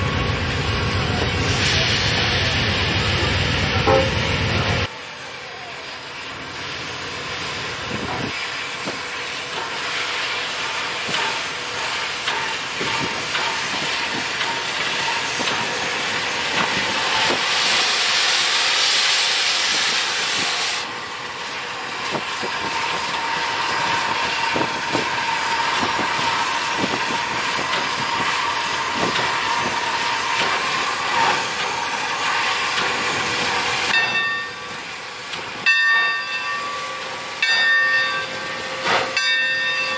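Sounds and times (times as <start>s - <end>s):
steam locomotive hissing: 0.0s - 39.9s.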